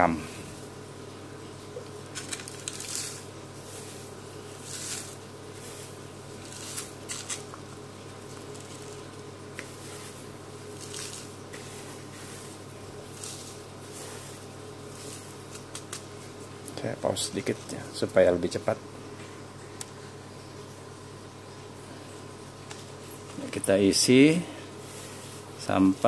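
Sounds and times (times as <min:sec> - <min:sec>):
rice husk rustling and pattering: 0:00.0 - 0:18.2, 0:22.6 - 0:26.0
steady low hum: 0:00.0 - 0:26.0.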